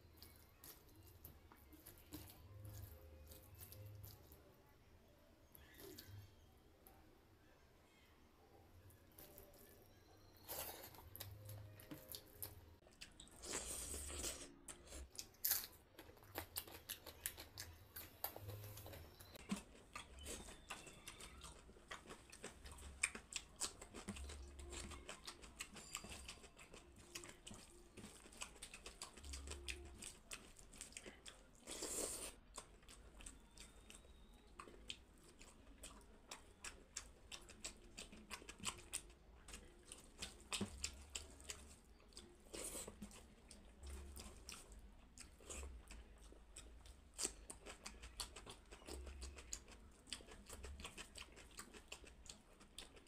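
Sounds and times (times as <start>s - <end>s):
wet chewing: 10.4s - 53.0s.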